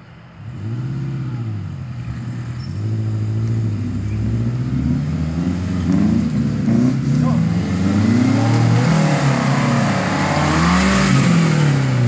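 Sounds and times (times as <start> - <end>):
off-road vehicle engine revving: 0.4 - 12.0.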